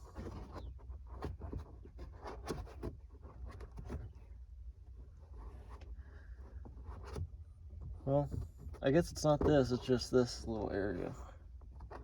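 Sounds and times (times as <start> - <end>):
knocks and scraping on panel: 0.0 - 4.3, 5.3 - 12.0.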